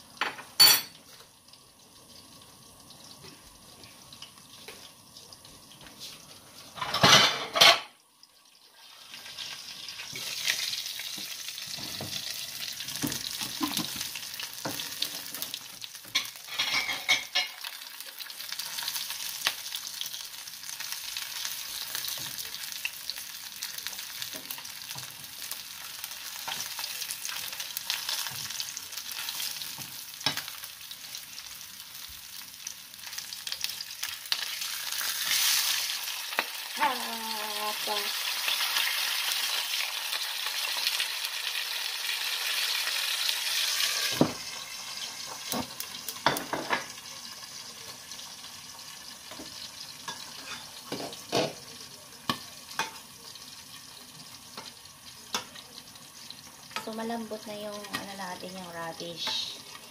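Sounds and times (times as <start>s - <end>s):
food sizzling on a stove: 0.0s - 59.9s.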